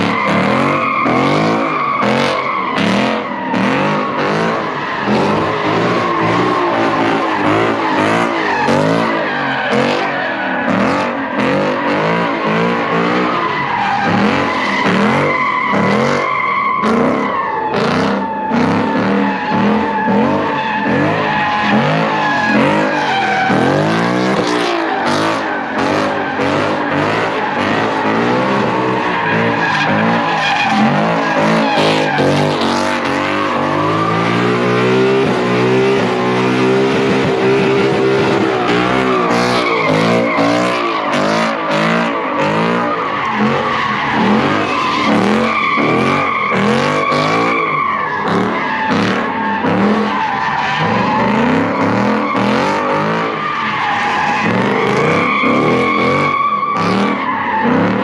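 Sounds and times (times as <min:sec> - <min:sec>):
car engine revving: 0:00.0 - 0:58.0
tyres squealing on asphalt: 0:00.0 - 0:58.0.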